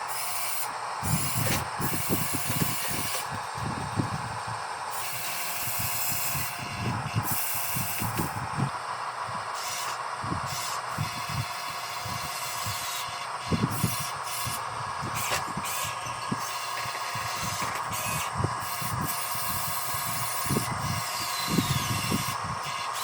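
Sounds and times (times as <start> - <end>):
electric motors whirring: 0.0 - 23.0.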